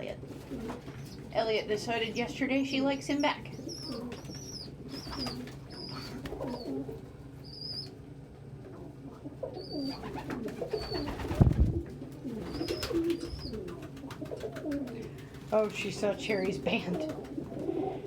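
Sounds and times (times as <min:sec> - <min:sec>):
pigeons cooing: 0:03.0 - 0:15.5, 0:16.1 - 0:18.0.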